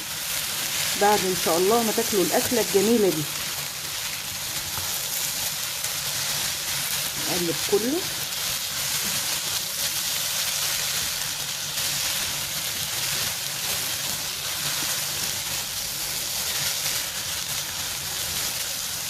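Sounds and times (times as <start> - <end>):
rice sizzling in a pot: 0.0 - 19.0.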